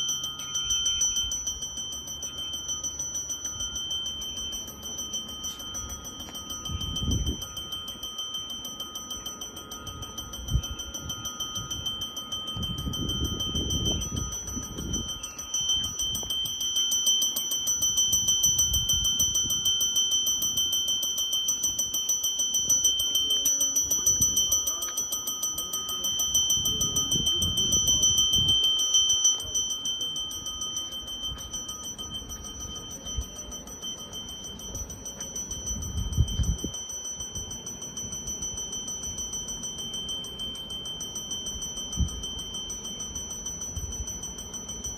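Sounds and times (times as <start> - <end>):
bell ringing continuously: 0.0 - 44.9.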